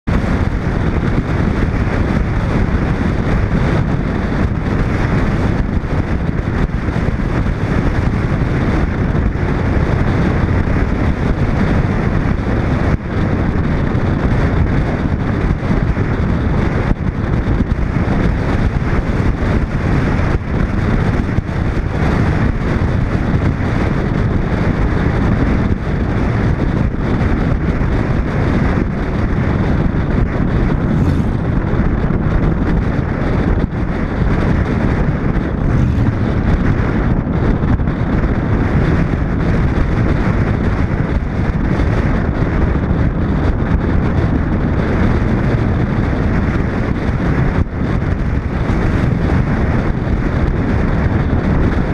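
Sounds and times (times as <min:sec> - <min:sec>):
road noise from moving car: 0:00.0 - 0:51.9
wind buffeting microphone: 0:00.0 - 0:51.9.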